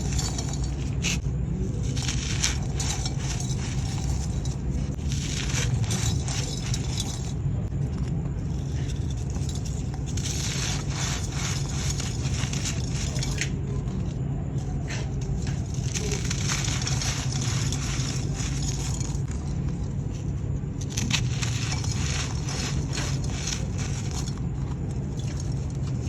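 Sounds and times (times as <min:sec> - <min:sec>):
sand and clay crumbling: 0:00.0 - 0:26.0
steady low hum: 0:00.0 - 0:26.0.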